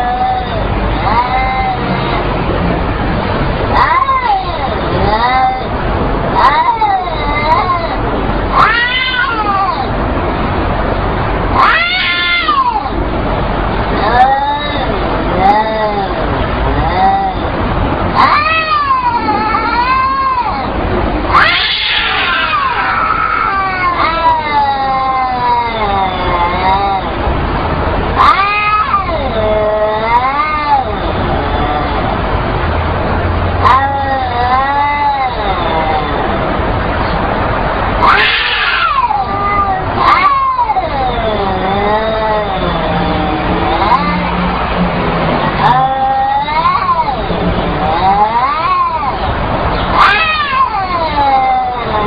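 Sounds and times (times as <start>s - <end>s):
cats yowling: 0.0s - 52.0s.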